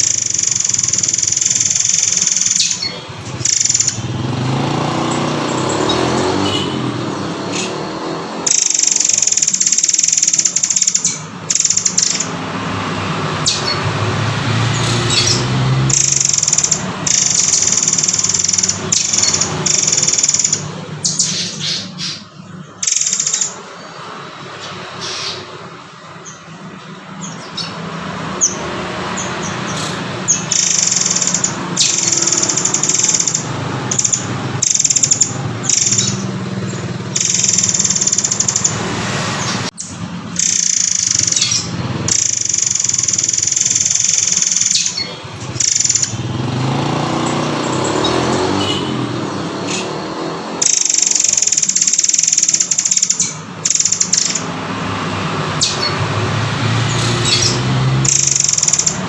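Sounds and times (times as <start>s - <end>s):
bird singing shrill phrases: 0.0s - 59.0s.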